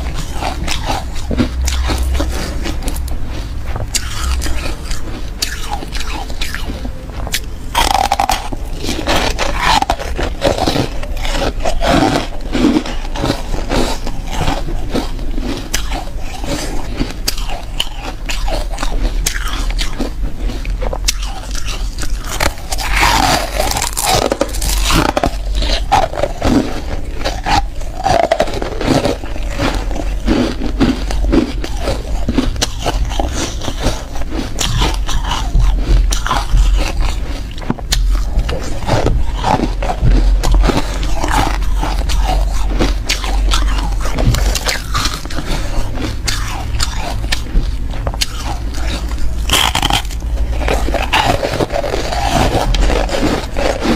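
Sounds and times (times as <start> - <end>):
ice crunching while chewed: 0.0 - 53.9.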